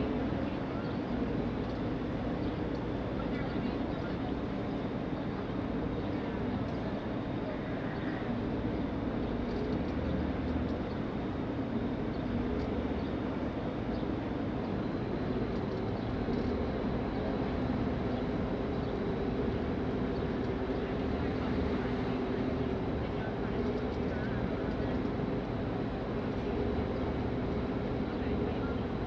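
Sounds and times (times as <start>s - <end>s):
constant rushing noise: 0.0s - 29.0s
ferry engine drone: 0.0s - 29.0s.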